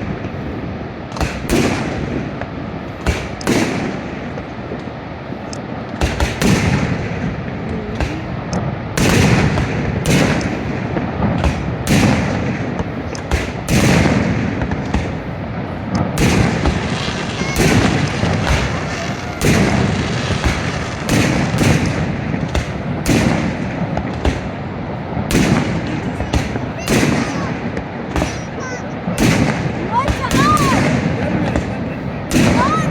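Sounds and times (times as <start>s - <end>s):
continuous din: 0.0s - 32.9s
fireworks bangs and booms: 0.0s - 32.9s.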